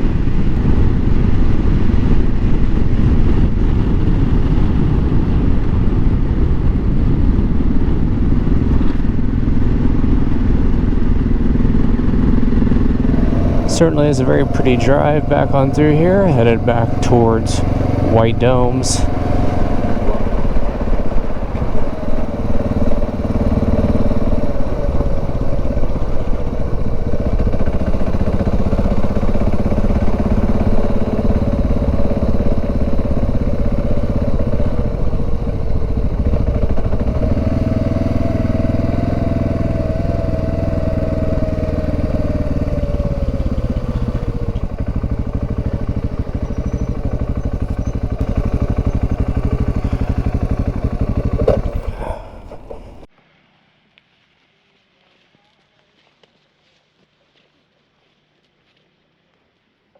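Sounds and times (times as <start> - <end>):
motorcycle engine running: 0.0 - 53.1.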